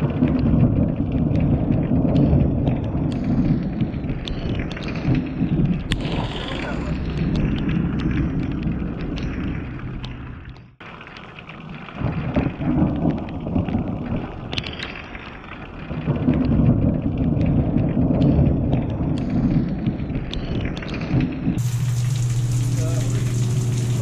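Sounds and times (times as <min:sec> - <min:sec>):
rain ticking on camera: 0:00.0 - 0:24.0
thunder rumbling: 0:00.0 - 0:24.0.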